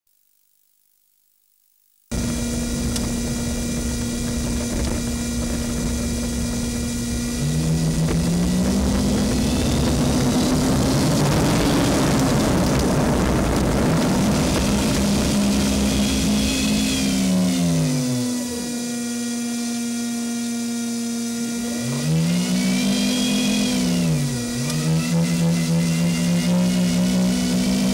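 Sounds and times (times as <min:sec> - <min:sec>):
small cooling fan whine: 0:00.2 - 0:27.9
electric motors whining: 0:02.1 - 0:27.9.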